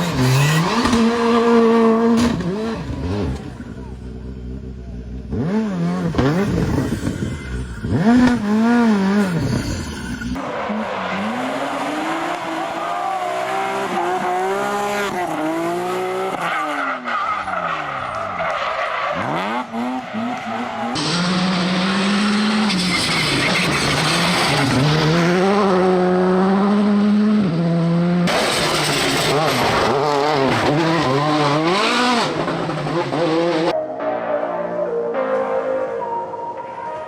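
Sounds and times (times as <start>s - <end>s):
car engines revving: 0.0s - 33.8s
tyre and road noise: 0.0s - 33.8s.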